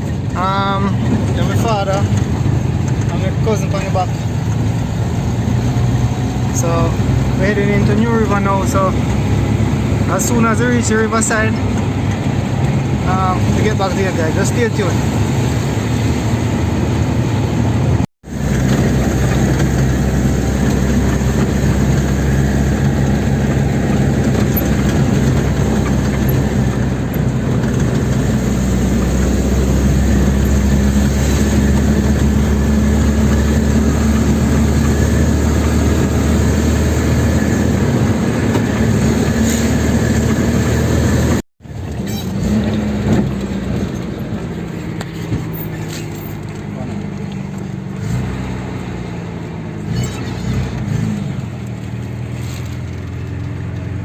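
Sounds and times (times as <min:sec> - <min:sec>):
van engine and road noise: 0:00.0 - 0:54.0.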